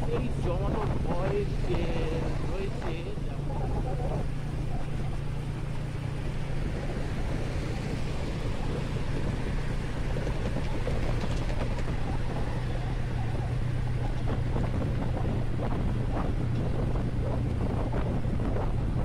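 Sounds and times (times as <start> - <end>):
motorcycle engine cruising: 0.0 - 19.0
wind noise on microphone: 0.0 - 19.0.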